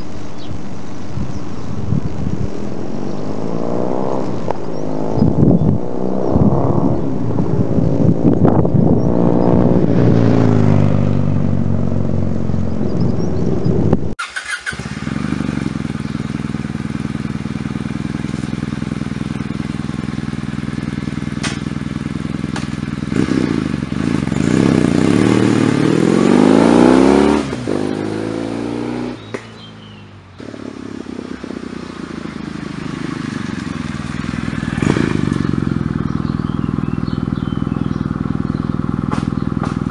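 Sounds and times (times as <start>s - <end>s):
motorcycle engine revving: 0.0s - 39.9s
motorcycle passing by: 0.0s - 39.9s.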